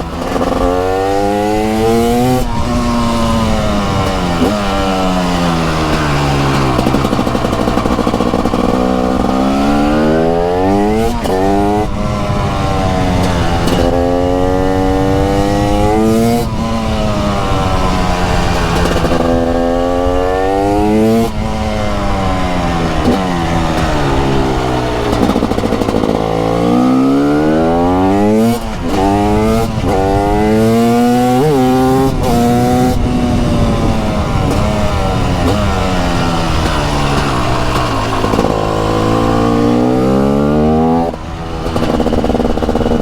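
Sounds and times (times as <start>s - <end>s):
two-stroke motorbike engine revving: 0.0s - 43.0s.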